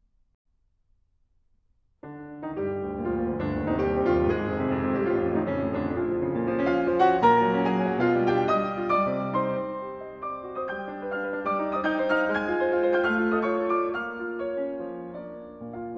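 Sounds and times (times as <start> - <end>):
solo piano piece: 2.0 - 15.9.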